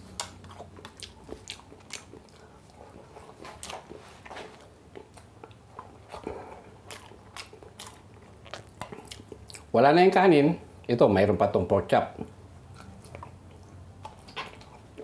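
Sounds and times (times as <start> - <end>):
man chewing and lip-smacking: 0.0 - 9.8, 12.2 - 15.0.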